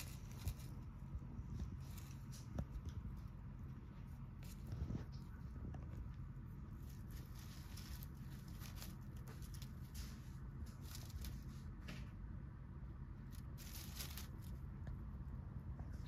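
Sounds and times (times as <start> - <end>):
leaves and grass rustling: 0.0 - 5.3, 5.9 - 11.9, 13.2 - 14.8.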